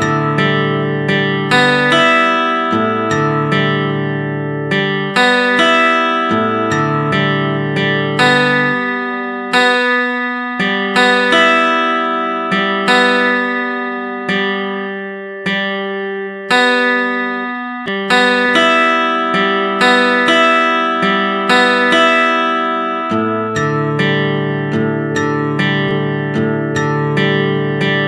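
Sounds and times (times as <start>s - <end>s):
slow plucked melody: 0.0s - 28.0s.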